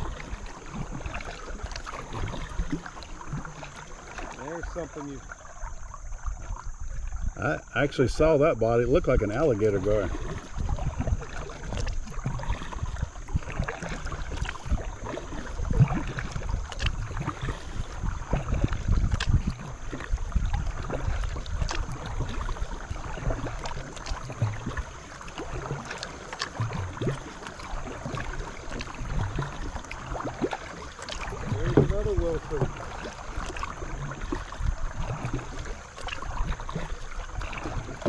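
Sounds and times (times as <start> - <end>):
wind rumbling on microphone: 0.0 - 25.9, 31.2 - 38.0
paddle strokes splashing in water: 0.0 - 38.0.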